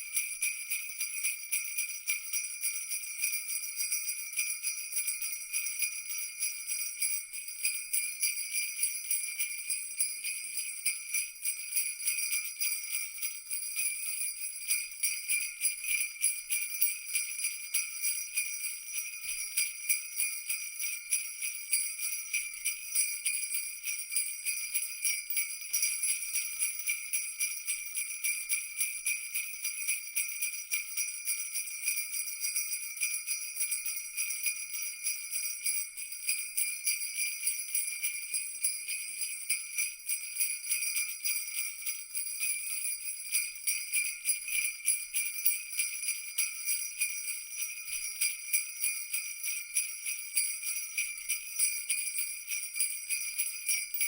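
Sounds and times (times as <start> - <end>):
jingle bells shaking: 0.0 - 54.0.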